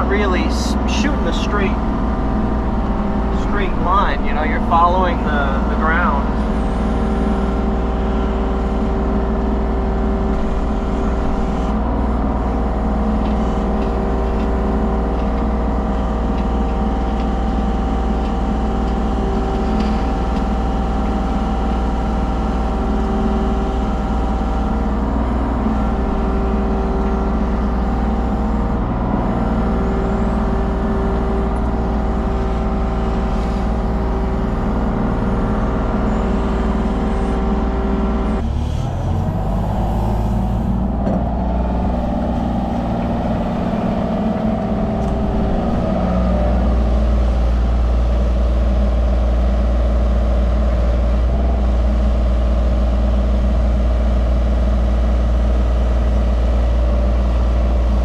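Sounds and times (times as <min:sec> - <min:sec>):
excavator diesel engine running: 0:00.0 - 0:58.0
hydraulics working: 0:00.0 - 0:58.0.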